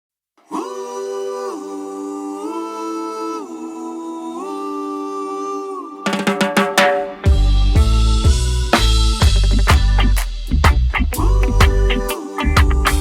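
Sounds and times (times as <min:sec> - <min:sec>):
voices humming a cappella: 0:00.4 - 0:06.4, 0:07.2 - 0:10.1, 0:11.1 - 0:13.0.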